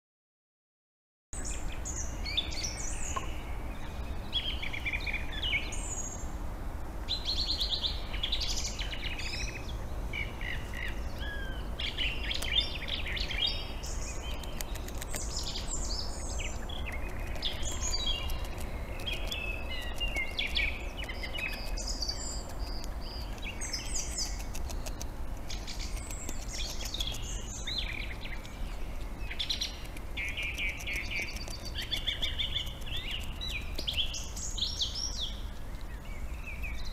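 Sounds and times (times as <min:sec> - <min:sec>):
small birds chirping: 0:01.4 - 0:06.4, 0:07.0 - 0:36.9
steady low rumble: 0:01.4 - 0:36.9.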